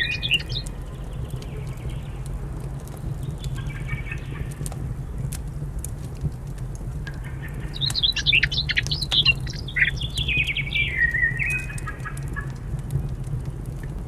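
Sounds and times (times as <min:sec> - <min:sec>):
songbird singing: 0:00.0 - 0:05.7, 0:07.0 - 0:13.6
log fire crackling: 0:00.0 - 0:14.0.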